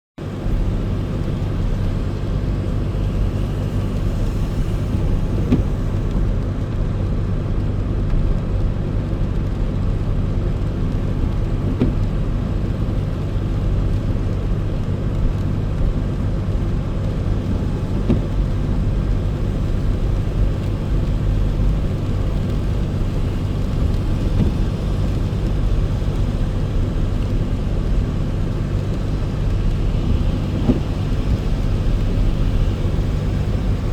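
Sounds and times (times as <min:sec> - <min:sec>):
car engine and road noise: 0:00.2 - 0:33.9.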